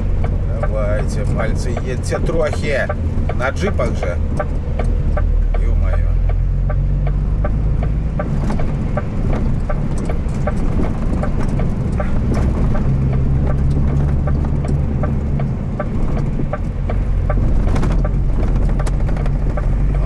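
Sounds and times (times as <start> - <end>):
steady rapid ticking: 0.0 - 20.0
truck diesel engine running: 0.0 - 20.0.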